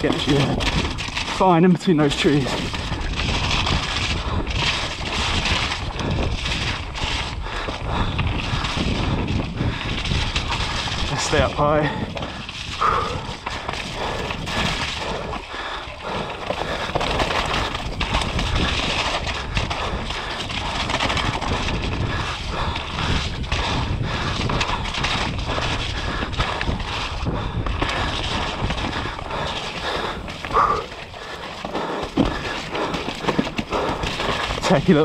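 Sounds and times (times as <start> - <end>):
bike rattling over roots: 0.0 - 35.0
bike tyres rushing on wet dirt: 0.0 - 35.0
wind on microphone: 2.2 - 35.0.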